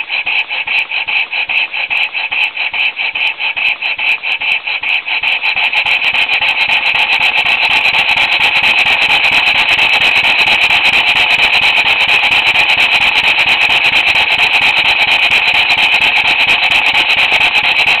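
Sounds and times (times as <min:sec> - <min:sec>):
model steam engine chuffing: 0:00.0 - 0:18.0.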